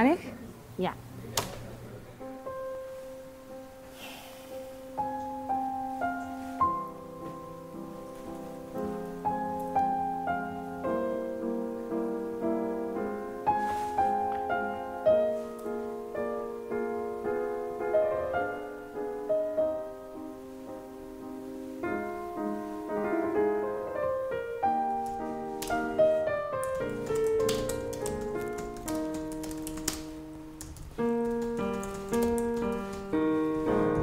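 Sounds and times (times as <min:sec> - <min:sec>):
piano music: 0:01.9 - 0:34.0.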